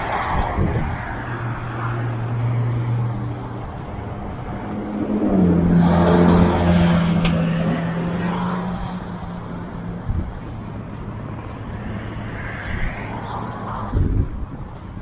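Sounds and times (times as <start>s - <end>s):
background traffic noise: 0.0s - 15.0s
vehicle engine hum passing: 0.0s - 15.0s.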